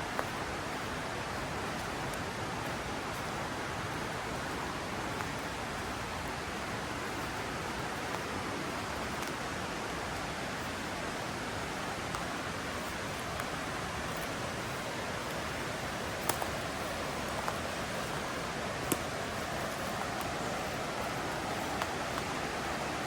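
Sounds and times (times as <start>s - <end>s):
mountain river flowing: 0.0s - 23.0s.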